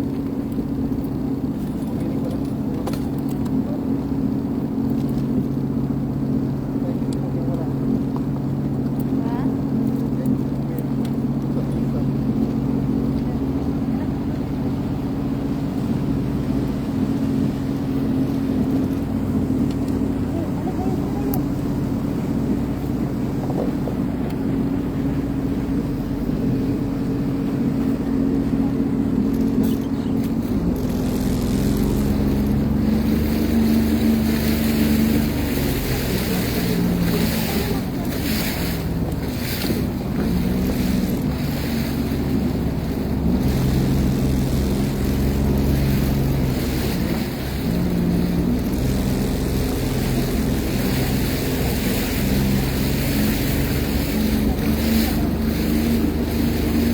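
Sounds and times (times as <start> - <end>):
personal watercraft engine: 0.0 - 56.9.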